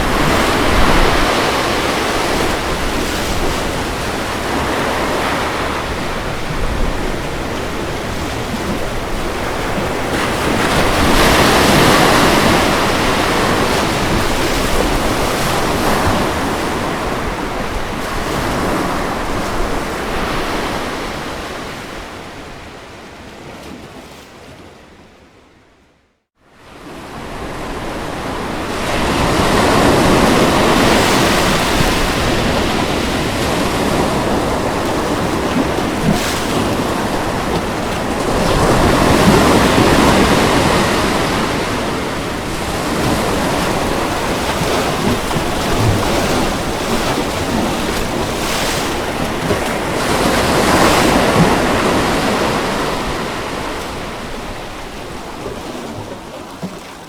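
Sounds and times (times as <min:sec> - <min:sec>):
ocean surf rushing: 0:00.0 - 0:22.4, 0:26.8 - 0:56.5.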